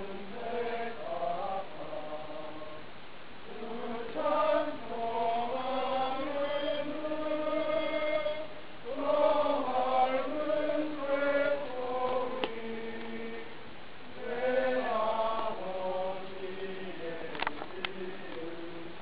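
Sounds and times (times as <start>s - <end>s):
group singing: 0.0s - 19.0s.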